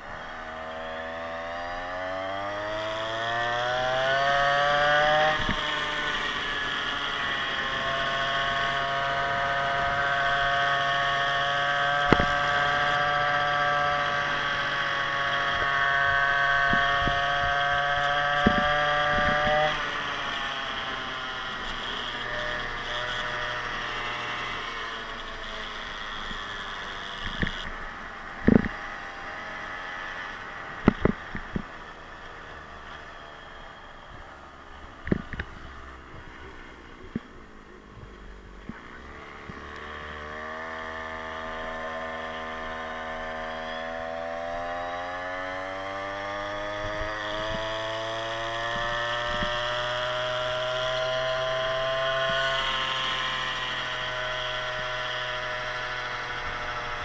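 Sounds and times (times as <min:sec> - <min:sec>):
two-stroke scooter engine revving: 0:00.0 - 0:57.0.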